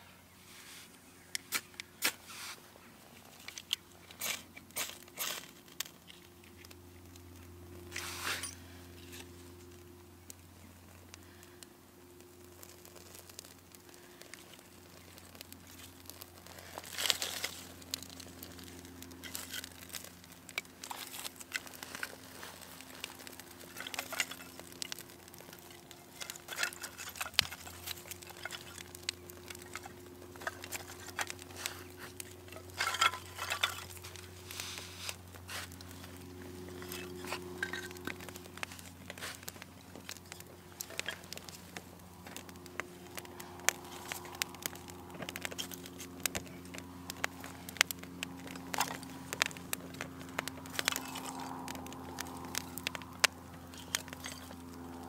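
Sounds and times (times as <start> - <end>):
kindling crackling as it burns: 0.2 - 55.0
kindling scraping and snapping: 1.3 - 11.6, 12.2 - 55.0
tinder tearing and crumpling: 1.4 - 55.0.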